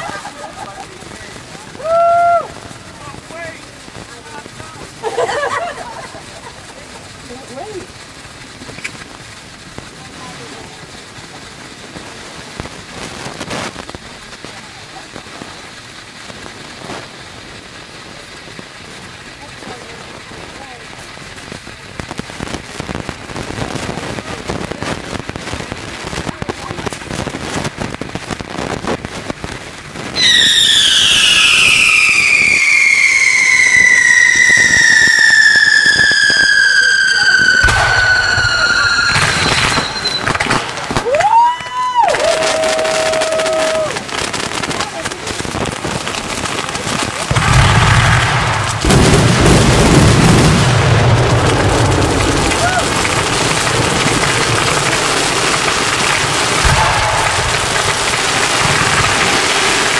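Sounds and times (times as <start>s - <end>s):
firework fountain crackling: 0.0s - 59.9s
whistling firework: 0.0s - 59.9s.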